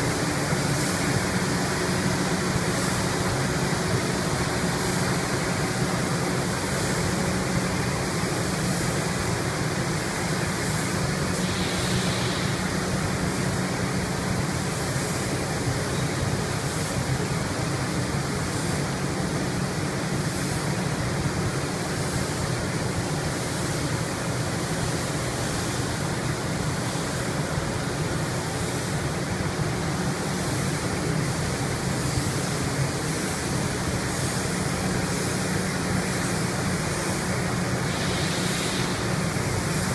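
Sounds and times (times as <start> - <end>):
booth ventilation running: 0.0 - 39.9
paint spray gun hissing: 0.0 - 39.9.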